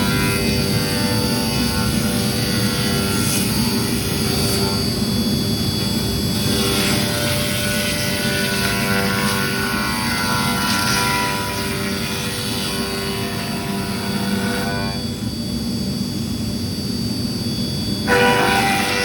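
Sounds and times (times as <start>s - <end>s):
router bit cutting wood: 0.0s - 15.2s, 18.1s - 19.0s
router spindle whining: 0.0s - 15.3s, 17.6s - 19.0s.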